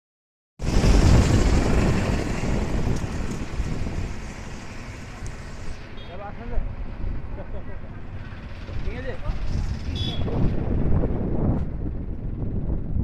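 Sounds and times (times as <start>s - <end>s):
wind rumbling on microphone: 0.6s - 7.4s, 8.0s - 13.0s
road traffic noise: 0.6s - 12.7s.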